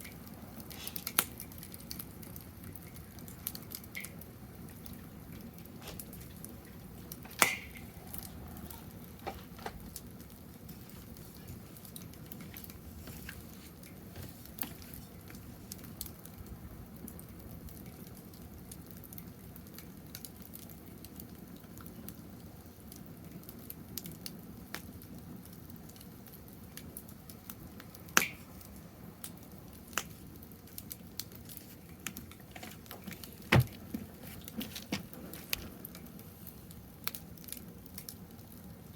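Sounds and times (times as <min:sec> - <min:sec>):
sharp pops of fire: 0:00.0 - 0:38.8
wood fire crackling: 0:00.0 - 0:38.9.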